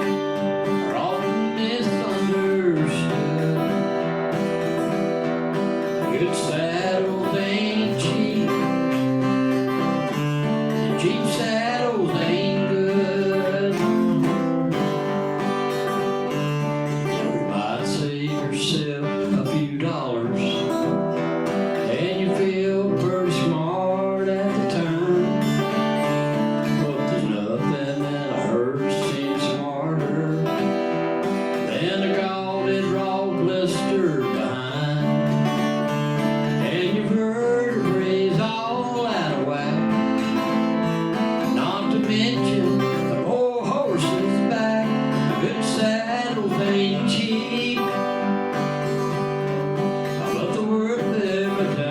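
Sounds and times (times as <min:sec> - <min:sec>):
acoustic guitar: 0:00.0 - 0:51.9
man singing: 0:00.0 - 0:51.9.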